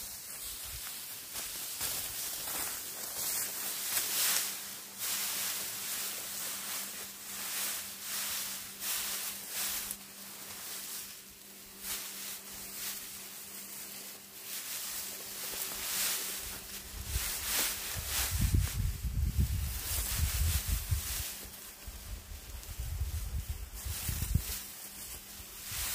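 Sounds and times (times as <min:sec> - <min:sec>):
dry straw rustling and crackling: 0:00.0 - 0:25.9
faint steady hum: 0:00.0 - 0:25.9.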